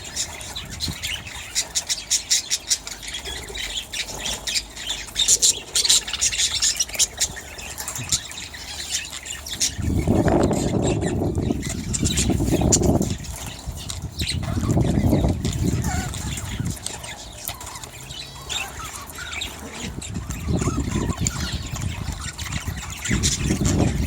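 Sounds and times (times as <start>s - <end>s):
budgerigars chattering and squawking: 0.0s - 24.0s.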